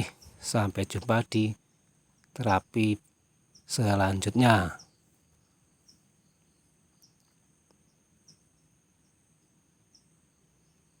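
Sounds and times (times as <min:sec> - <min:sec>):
high-pitched insect trill: 0:00.0 - 0:11.0
soft chirps: 0:00.0 - 0:11.0.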